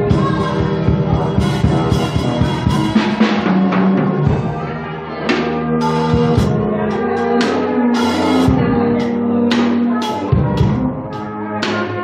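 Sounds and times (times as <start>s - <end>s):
background music: 0.0s - 12.0s
drum kit playing: 0.0s - 12.0s.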